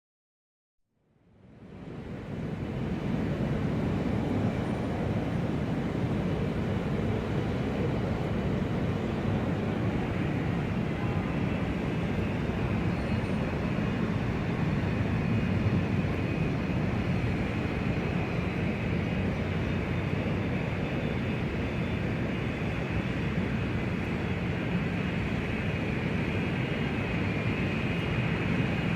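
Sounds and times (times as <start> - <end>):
airport ambience low rumble: 1.1 - 28.9.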